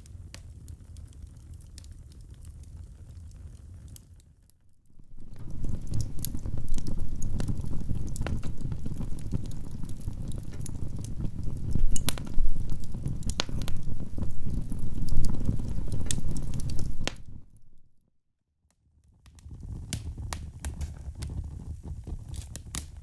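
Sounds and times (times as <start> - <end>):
fire crackling and popping: 0.0 - 18.0, 19.0 - 23.0
fire flames rumbling: 0.0 - 18.0, 19.2 - 23.0.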